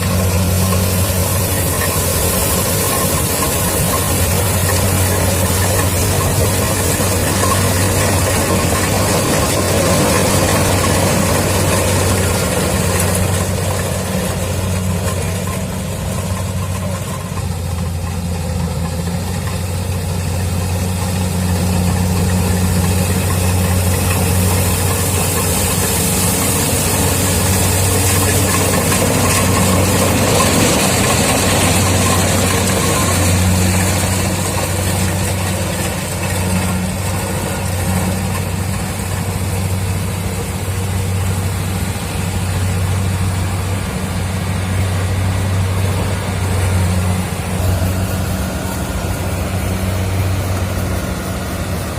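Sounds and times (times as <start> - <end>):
combine harvester engine droning: 0.0 - 51.9.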